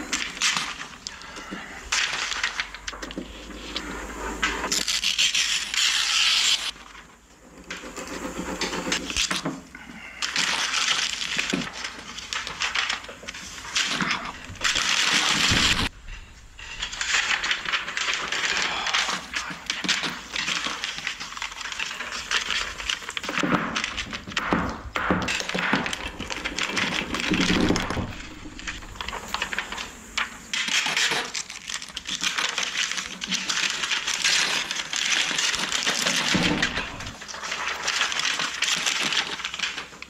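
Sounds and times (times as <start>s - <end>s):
paper rustling and crinkling: 0.0s - 40.0s.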